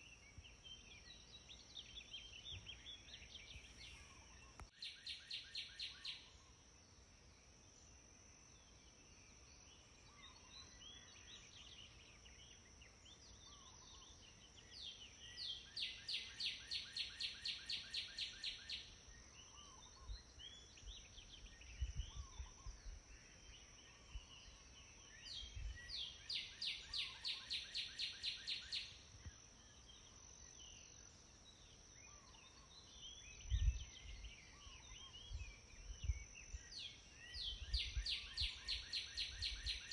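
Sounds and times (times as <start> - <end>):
bird chirps: 0.0 - 6.6, 8.6 - 39.9.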